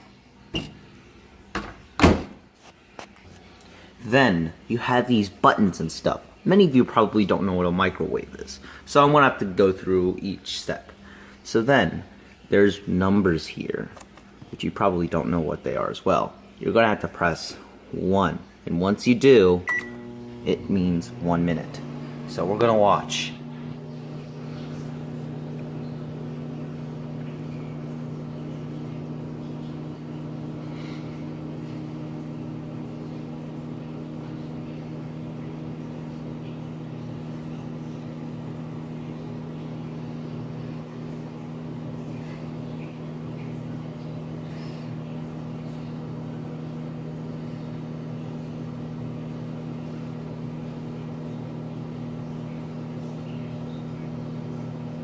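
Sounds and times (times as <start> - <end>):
microwave oven humming: 0.0 - 55.0.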